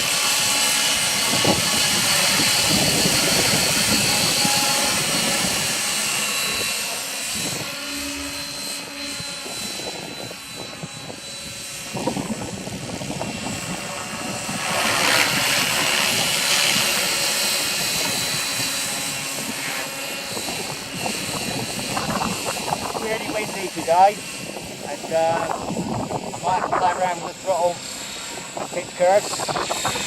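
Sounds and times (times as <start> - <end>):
model helicopter rotor whine: 0.0 - 30.0
wind buffeting microphone: 0.0 - 30.0.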